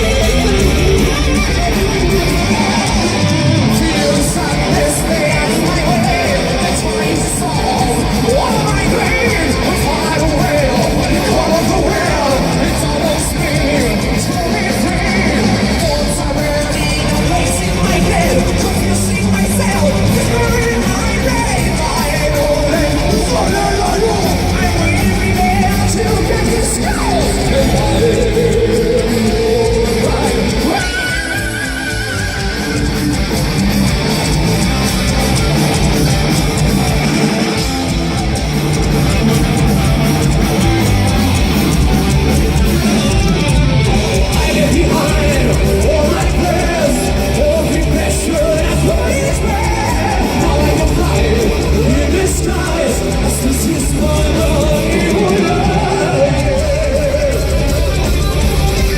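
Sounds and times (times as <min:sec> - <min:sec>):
heavy metal band playing: 0:00.0 - 0:58.9.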